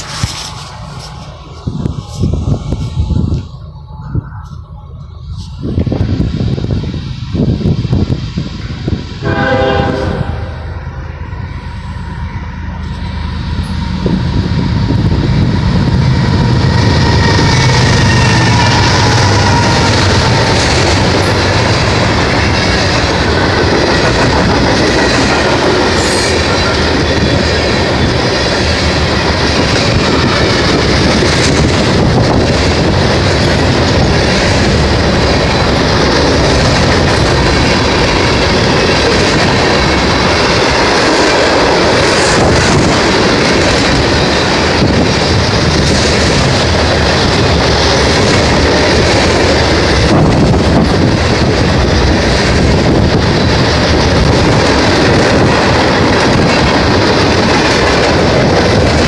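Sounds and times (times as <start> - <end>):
locomotive engine hum: 0.0 - 59.0
steel wheels running on rails: 0.0 - 59.0.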